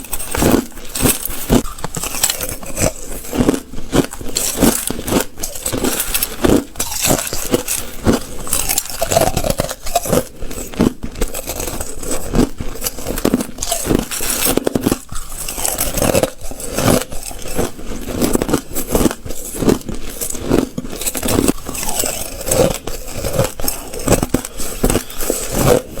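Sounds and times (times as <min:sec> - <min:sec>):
ice crunching while chewed: 0:00.0 - 0:26.0.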